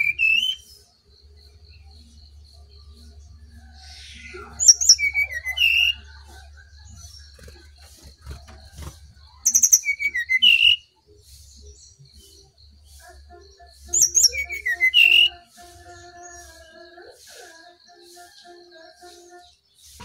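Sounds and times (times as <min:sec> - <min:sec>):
bird song with high notes and whistles: 0:00.0 - 0:20.0
faint birds calling: 0:00.0 - 0:20.0.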